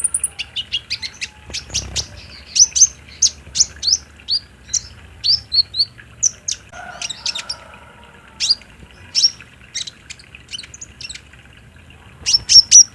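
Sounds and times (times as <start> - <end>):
sunbird high chirps: 0.0 - 7.7, 8.4 - 11.3, 12.2 - 12.9.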